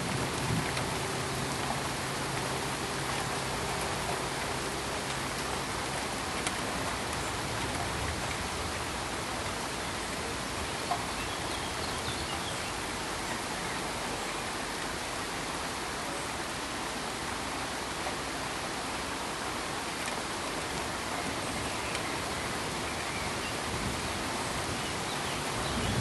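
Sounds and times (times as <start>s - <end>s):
steady pink noise hiss: 0.0s - 26.0s.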